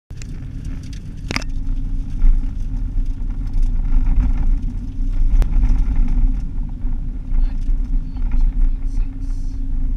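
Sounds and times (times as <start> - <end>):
engine and tyre rumble: 0.1 - 9.9.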